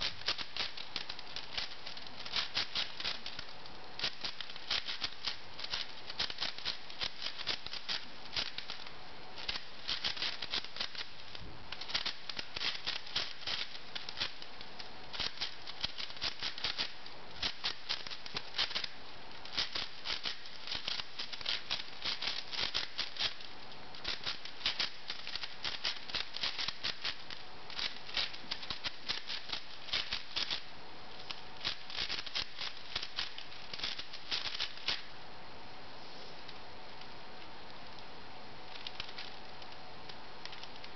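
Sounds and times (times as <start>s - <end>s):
puzzle cube clicking and rattling: 0.0s - 30.6s, 31.3s - 35.1s, 38.7s - 39.8s, 40.4s - 40.9s.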